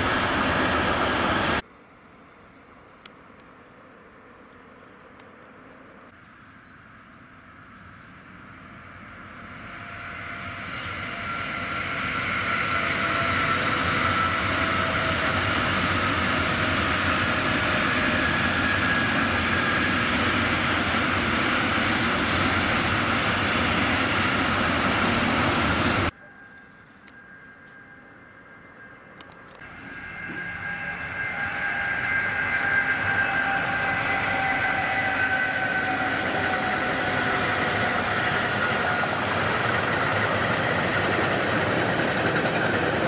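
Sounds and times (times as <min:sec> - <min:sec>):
freight train rolling on rails: 0:00.0 - 0:01.6, 0:05.6 - 0:43.0.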